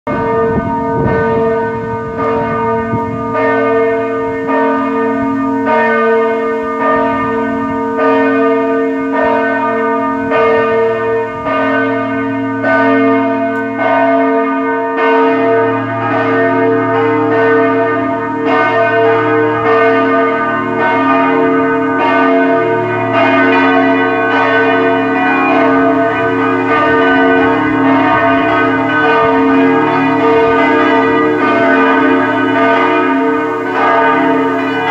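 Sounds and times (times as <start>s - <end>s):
church bells ringing: 0.1s - 34.9s.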